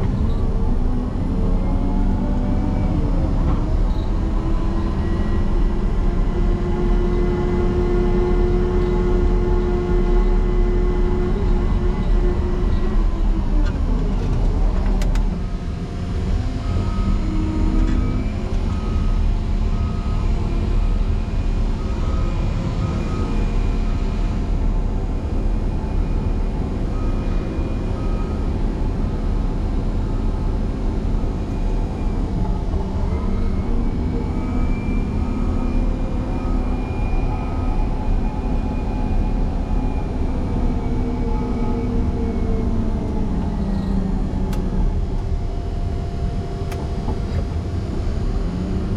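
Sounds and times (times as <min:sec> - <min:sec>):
diesel grader engine working: 0:00.0 - 0:48.9.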